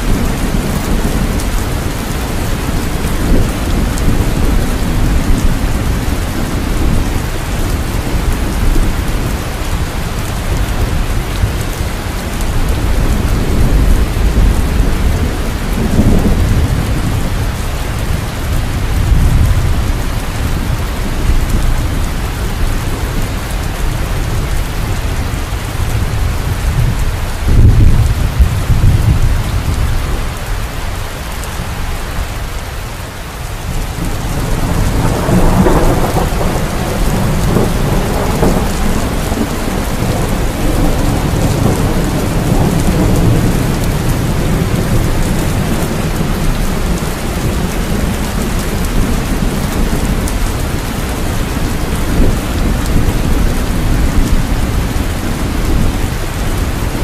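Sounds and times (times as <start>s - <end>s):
low thunder rolls: 0.0s - 30.5s, 33.6s - 57.0s
heavy rain: 0.0s - 57.0s.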